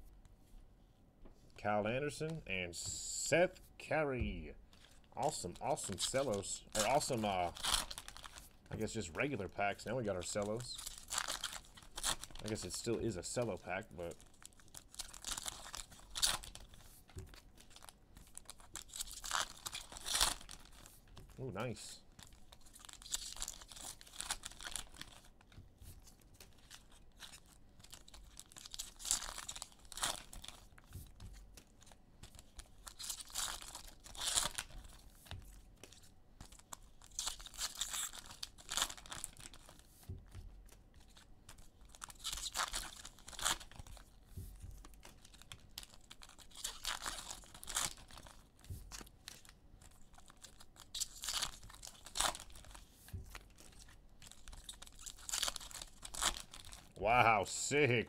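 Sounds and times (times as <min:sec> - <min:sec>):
cellophane wrappers crinkling and tearing: 0:04.7 - 0:57.5.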